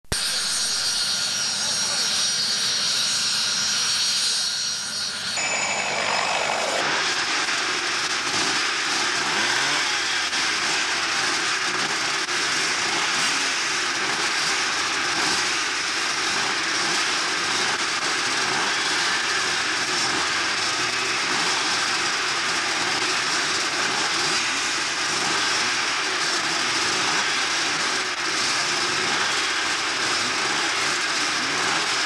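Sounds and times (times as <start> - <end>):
many motorcycle engines revving: 0.0 - 32.0.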